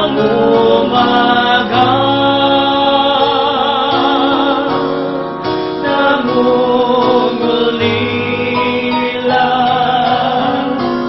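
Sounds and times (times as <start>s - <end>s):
instrumental accompaniment: 0.0s - 11.0s
person singing worship song: 0.0s - 11.0s.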